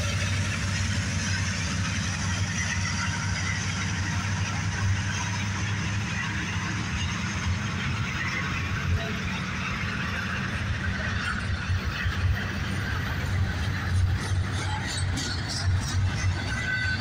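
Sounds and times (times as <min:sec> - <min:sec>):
diesel locomotive drone: 0:00.0 - 0:17.0
freight cars rumbling on rails: 0:00.0 - 0:17.0.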